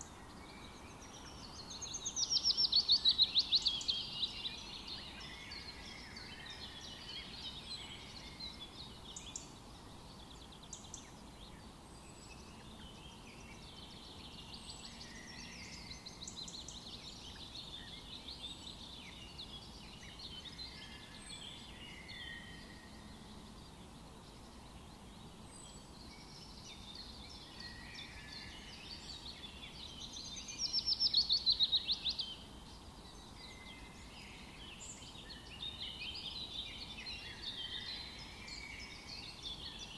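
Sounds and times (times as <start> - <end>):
faint background hiss: 0.0 - 39.9
wild birds singing and chirping: 0.0 - 39.9.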